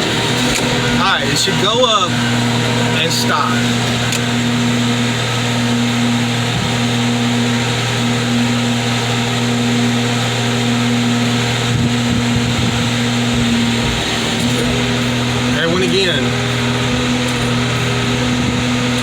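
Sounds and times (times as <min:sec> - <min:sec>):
engine and hydraulic unit humming: 0:00.0 - 0:19.0.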